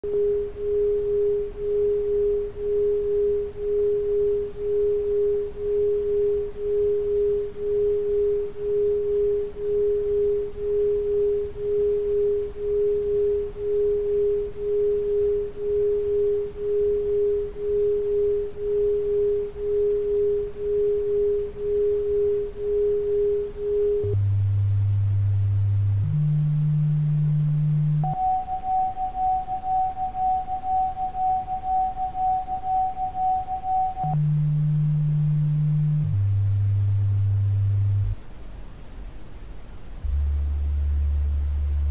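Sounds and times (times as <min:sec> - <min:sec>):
higher tone: 0:00.0 - 0:38.2
pulsing sine tone: 0:00.0 - 0:38.2, 0:40.0 - 0:41.9
low steady tones: 0:00.0 - 0:41.9.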